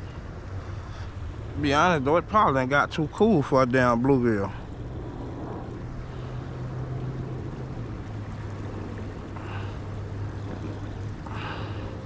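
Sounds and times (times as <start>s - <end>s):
low hum: 0.0s - 12.0s
river water rushing: 0.0s - 12.0s.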